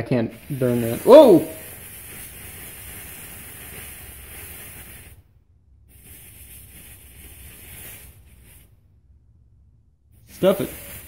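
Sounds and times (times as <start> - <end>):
powder burning with hiss: 0.0 - 8.9, 10.1 - 11.0.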